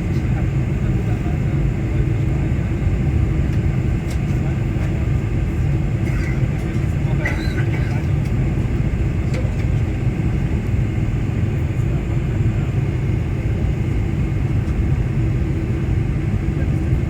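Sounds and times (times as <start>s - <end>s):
airliner engine rumble: 0.0s - 17.0s.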